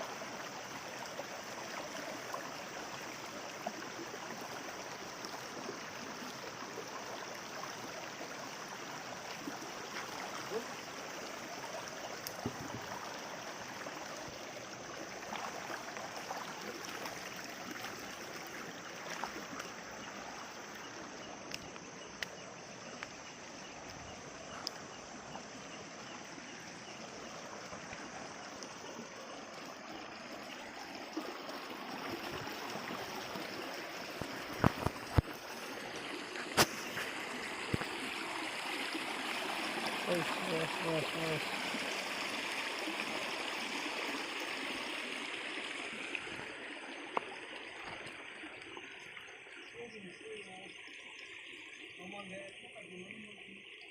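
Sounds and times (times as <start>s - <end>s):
water rushing over stones: 0.0s - 53.9s.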